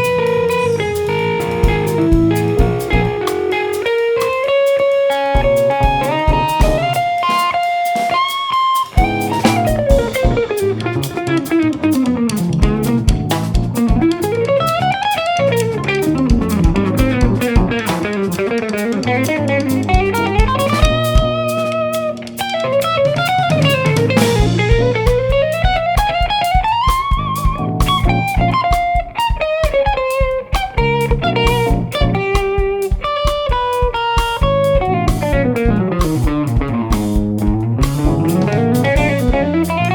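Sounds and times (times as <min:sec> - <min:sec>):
bass: 0:00.0 - 0:04.4, 0:05.2 - 0:07.4, 0:09.0 - 0:29.0, 0:30.6 - 0:32.8, 0:34.2 - 0:39.9
drum kit: 0:00.0 - 0:39.9
electric guitar lead: 0:00.0 - 0:39.9.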